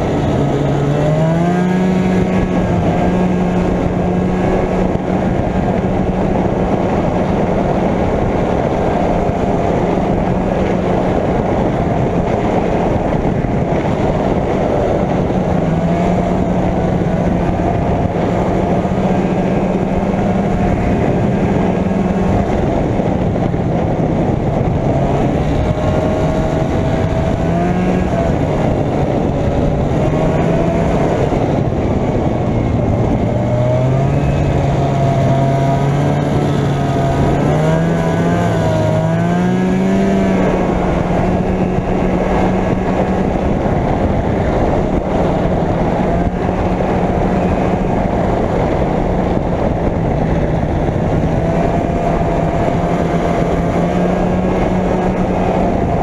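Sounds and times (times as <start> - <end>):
loud rushing noise: 0.0 - 56.0
snowmobile engine running: 0.0 - 56.0.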